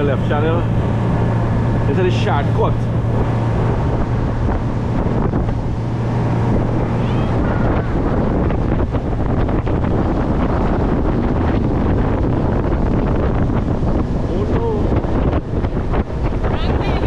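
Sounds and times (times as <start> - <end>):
boat engine humming: 0.0 - 17.0
wind buffeting microphone: 0.0 - 17.0.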